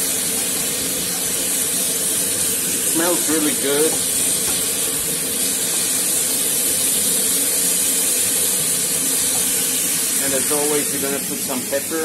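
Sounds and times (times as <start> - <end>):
spatula turning food: 0.0 - 11.8
food sizzling in a wok: 0.0 - 12.0.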